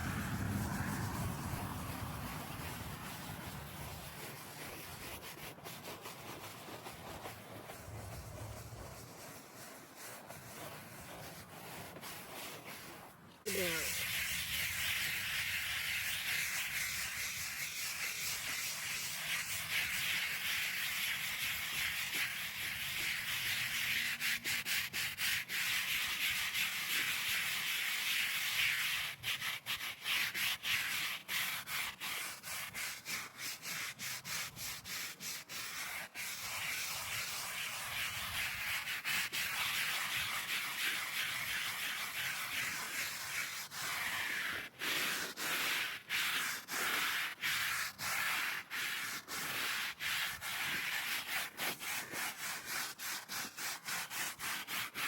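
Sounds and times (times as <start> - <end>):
hand scrubbing on stone: 0.0 - 55.0.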